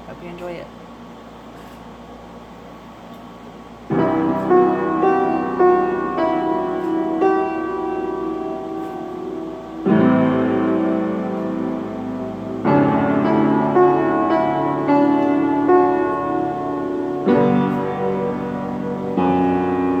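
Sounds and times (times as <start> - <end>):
slow piano music: 3.9 - 20.0.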